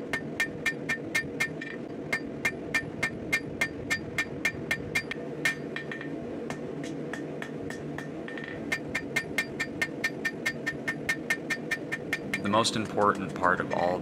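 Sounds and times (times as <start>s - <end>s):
hammer striking steel on anvil: 0.0s - 14.0s.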